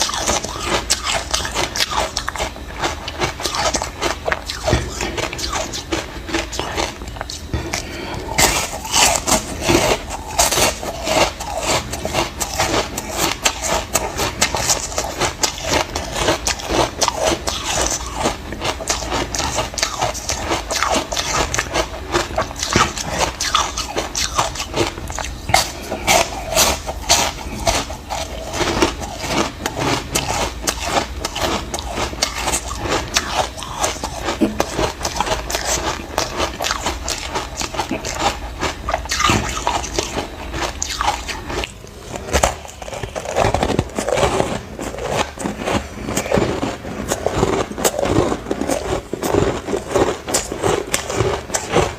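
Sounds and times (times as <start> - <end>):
ice being chewed and crunched: 0.0 - 51.9.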